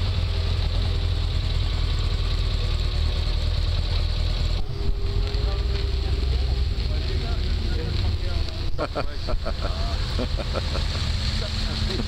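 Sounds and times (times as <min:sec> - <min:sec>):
small car driving past: 0:00.0 - 0:12.0.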